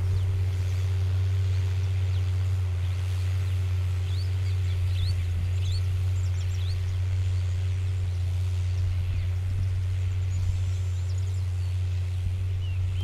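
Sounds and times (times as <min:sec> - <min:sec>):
small birds chirping: 0:00.0 - 0:13.0
tractor engine droning: 0:00.0 - 0:13.0.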